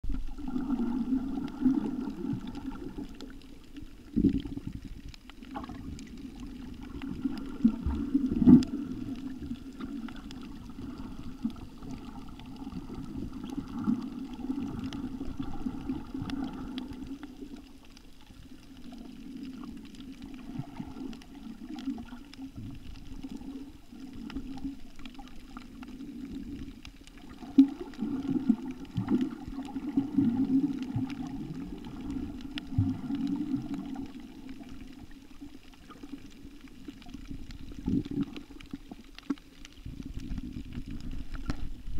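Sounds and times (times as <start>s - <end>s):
underwater water churning: 0.0s - 41.9s.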